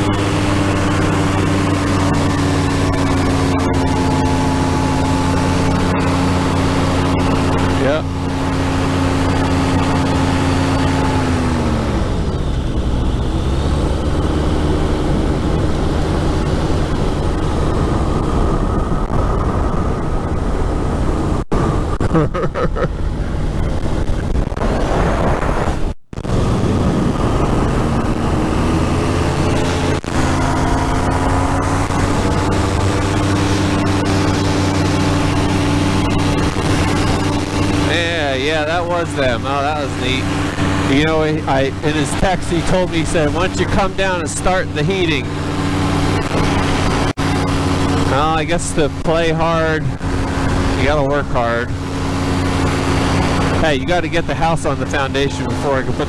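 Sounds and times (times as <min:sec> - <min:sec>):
wind rush: 0:00.0 - 0:22.3, 0:22.9 - 0:56.0
engine and propeller running: 0:00.0 - 0:56.0.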